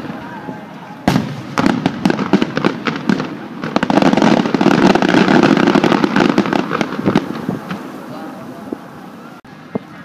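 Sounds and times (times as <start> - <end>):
firework shells bursting and crackling: 0.0 - 8.9.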